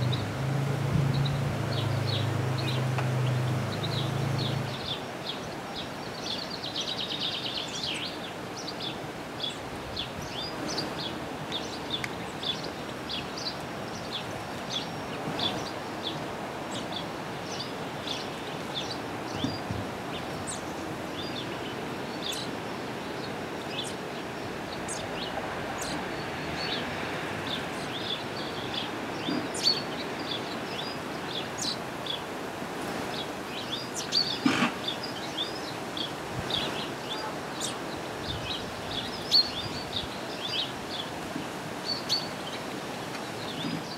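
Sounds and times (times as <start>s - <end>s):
songbirds chirping: 0.0s - 43.9s
steady background hiss: 0.0s - 43.9s.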